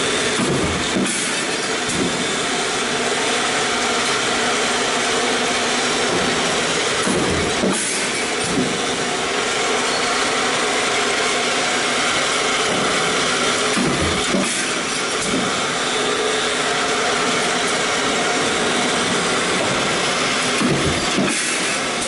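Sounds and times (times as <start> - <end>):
stamping press machine noise: 0.0 - 22.0.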